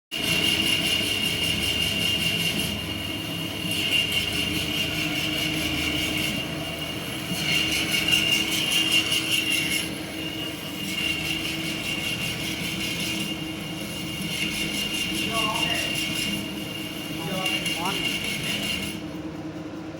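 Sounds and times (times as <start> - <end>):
wood router spindle whine: 0.2 - 19.8.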